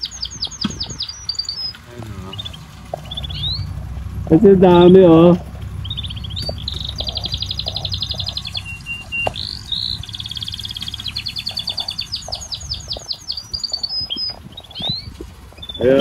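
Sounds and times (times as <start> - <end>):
low steady rumble: 0.0 - 16.0
songbird chirping trills: 0.0 - 16.0.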